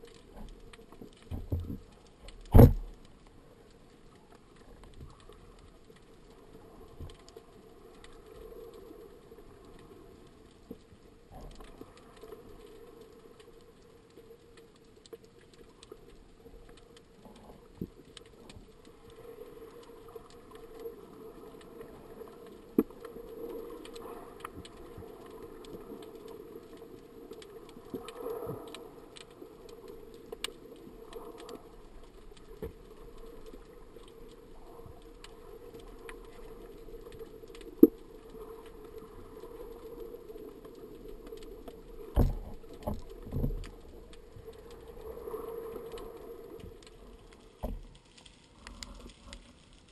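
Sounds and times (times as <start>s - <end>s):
low underwater hum: 0.0s - 49.9s.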